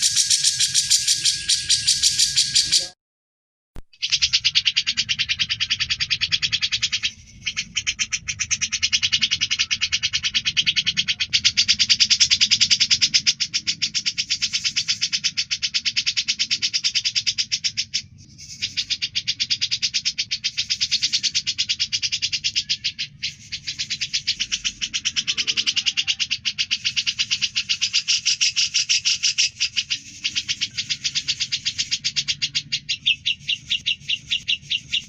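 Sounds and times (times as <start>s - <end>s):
bird chattering trill: 0.0s - 3.0s, 4.0s - 35.0s.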